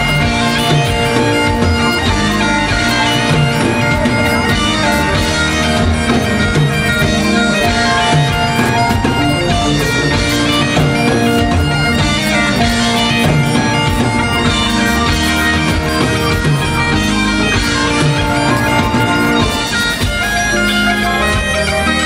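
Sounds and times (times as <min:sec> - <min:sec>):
bagpipes playing melody: 0:00.0 - 0:22.0
drum kit beat: 0:00.0 - 0:22.0
electric guitars: 0:00.0 - 0:22.0.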